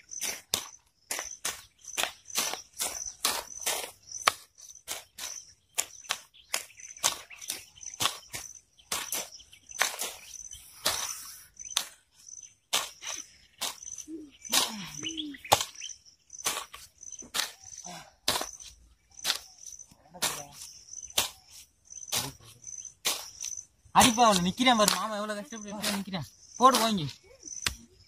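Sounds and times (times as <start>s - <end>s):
cricket trill: 0.0s - 28.0s
hand hoes chopping soil: 0.0s - 28.0s.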